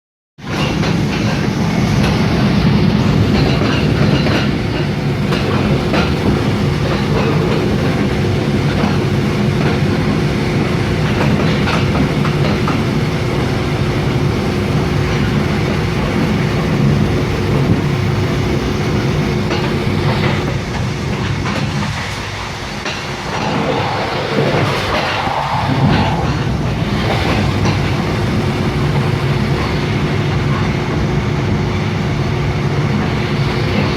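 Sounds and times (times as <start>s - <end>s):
train track clicks: 0.4s - 33.9s
train wheels rumbling on rails: 0.4s - 33.9s.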